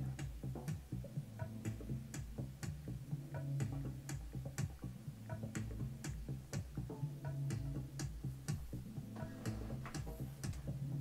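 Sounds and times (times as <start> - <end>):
background music: 0.0 - 11.0
low bass line: 0.0 - 11.0
ticking beat: 0.0 - 11.0.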